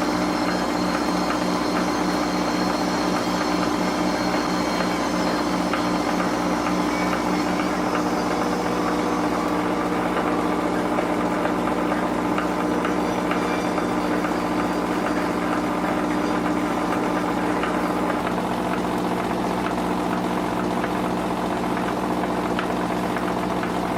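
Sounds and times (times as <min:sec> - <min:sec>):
engine running steadily: 0:00.0 - 0:23.9.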